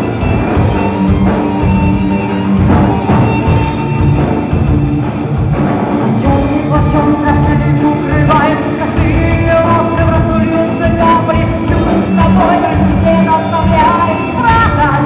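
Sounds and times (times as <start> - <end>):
folk-rock band playing live: 0.0 - 15.0.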